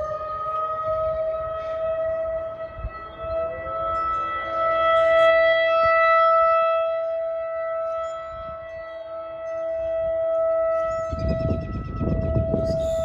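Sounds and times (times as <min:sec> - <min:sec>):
second siren rising in pitch: 0:00.0 - 0:13.0
warning siren steady tone: 0:00.0 - 0:13.0.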